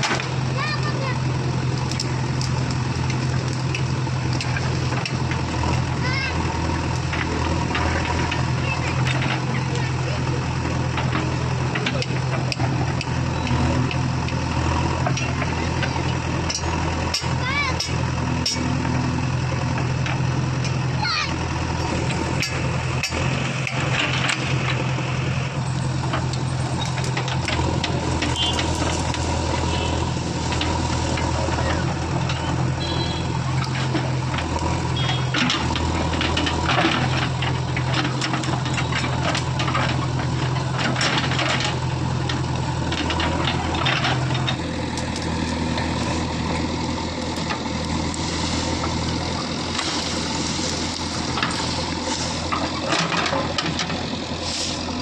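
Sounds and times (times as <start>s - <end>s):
clicks and clanks: 0.0s - 0.9s, 1.7s - 5.9s, 6.9s - 10.0s, 10.6s - 14.4s, 15.0s - 18.7s, 21.8s - 24.8s, 26.0s - 46.2s, 46.9s - 55.0s
diesel engine running under work: 0.0s - 55.0s.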